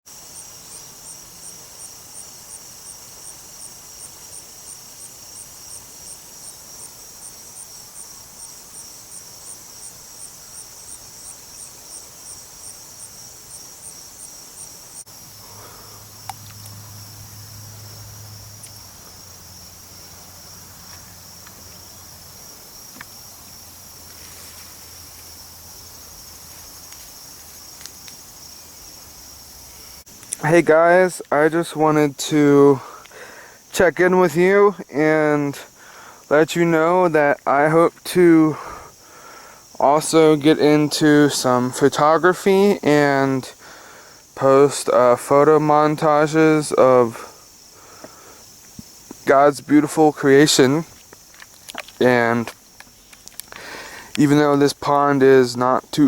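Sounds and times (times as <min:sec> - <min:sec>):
insects trilling: 0:00.0 - 0:56.0
insect chirping in even pulses: 0:00.1 - 0:56.0.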